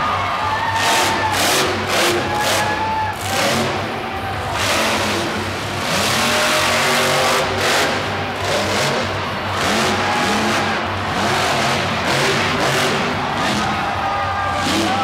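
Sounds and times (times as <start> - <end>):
truck engine revving: 0.4 - 15.0.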